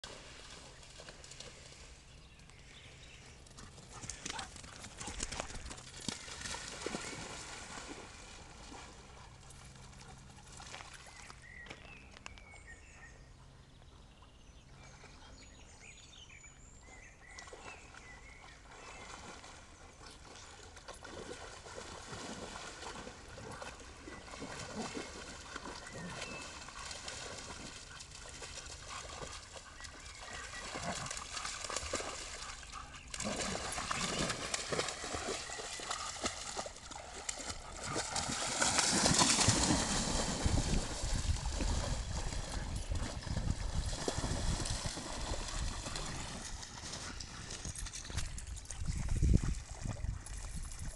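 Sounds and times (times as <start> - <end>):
dogs splashing in water: 3.7 - 11.2, 17.3 - 50.9.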